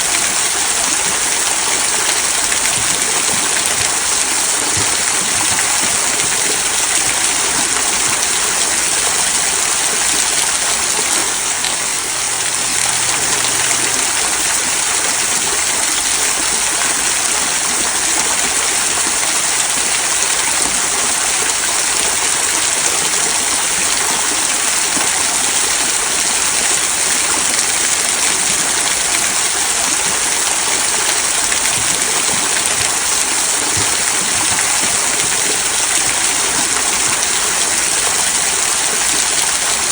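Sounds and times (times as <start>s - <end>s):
waterfall trickling over stones: 0.0s - 39.9s.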